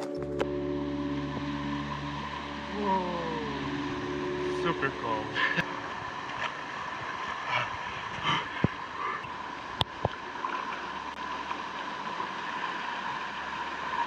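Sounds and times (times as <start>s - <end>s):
stream rushing over rocks: 0.0s - 14.0s
water splashing: 0.0s - 14.0s.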